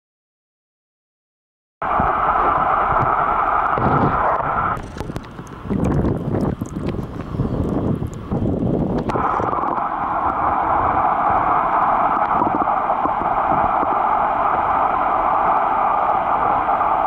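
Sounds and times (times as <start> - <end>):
underwater hiss: 1.8 - 17.0.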